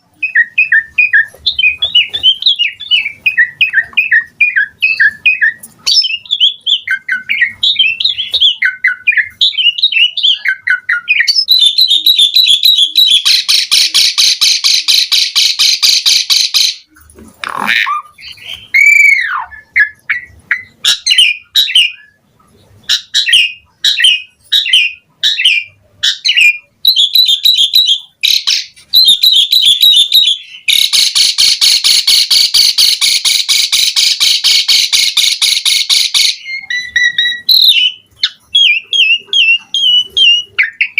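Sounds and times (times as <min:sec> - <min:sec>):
starling whistles and chirps: 0:00.0 - 0:16.9, 0:17.9 - 0:22.2, 0:22.9 - 0:40.9.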